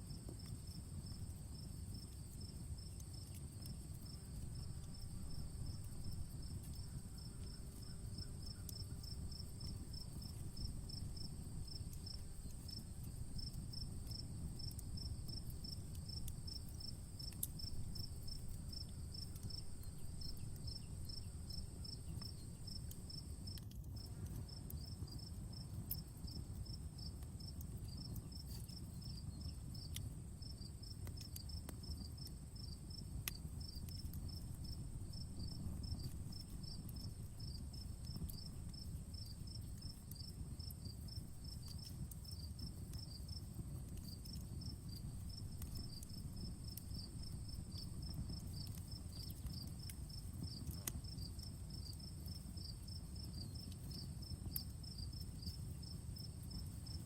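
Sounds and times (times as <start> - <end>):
campfire crackling and popping: 0.0 - 57.0
insects chirping: 0.2 - 57.0.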